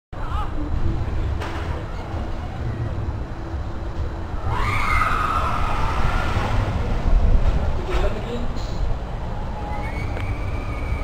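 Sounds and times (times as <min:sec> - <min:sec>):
low rumble: 0:00.2 - 0:11.0.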